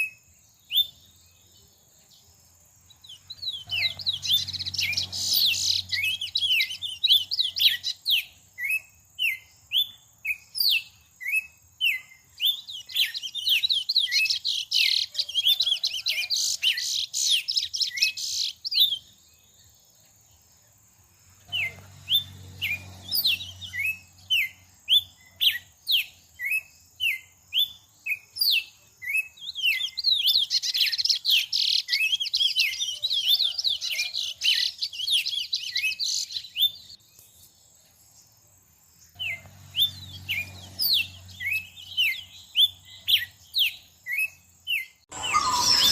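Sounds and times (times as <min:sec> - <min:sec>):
songbird chirping: 0:00.0 - 0:45.9.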